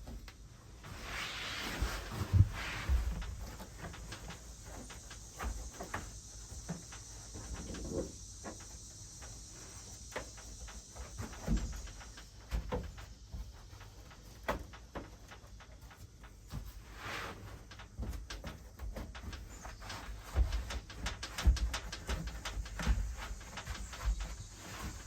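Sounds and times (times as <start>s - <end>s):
knocks and rustling of handling: 0.0s - 25.0s.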